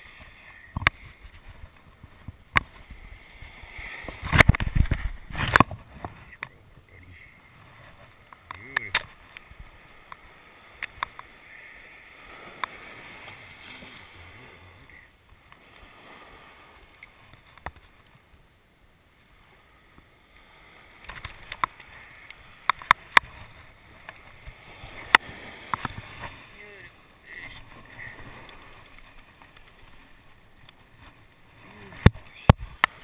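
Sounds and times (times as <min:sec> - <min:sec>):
surf washing on beach: 0:00.0 - 0:33.0.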